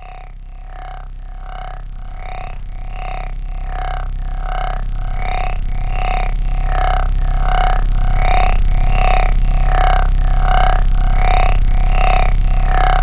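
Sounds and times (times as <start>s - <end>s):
dark throbbing synth drone: 0.0s - 13.0s.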